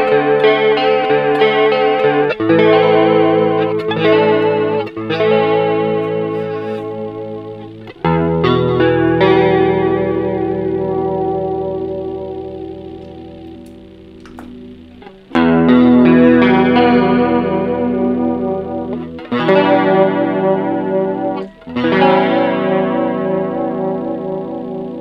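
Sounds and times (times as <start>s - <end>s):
electric guitar chords with chorus: 0.0s - 25.0s.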